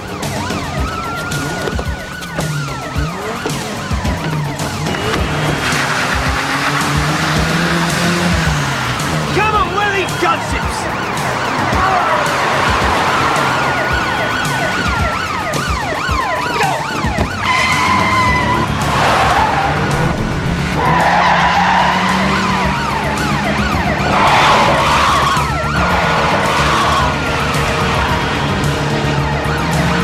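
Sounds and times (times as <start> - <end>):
tyres screeching: 0.0 - 29.9
car engines running: 0.0 - 30.0
police sirens yelping and wailing: 0.0 - 30.0.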